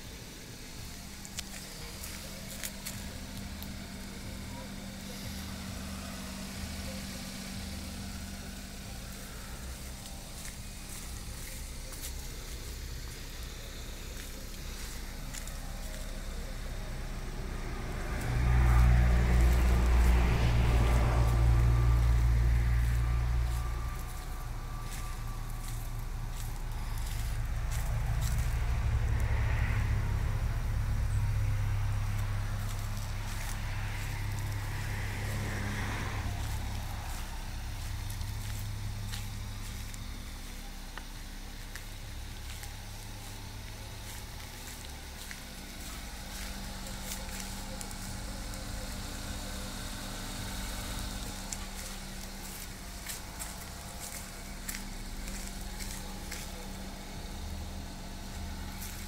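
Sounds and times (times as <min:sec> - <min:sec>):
car engine running: 0:00.0 - 0:59.0
steady low hum: 0:00.0 - 0:59.0.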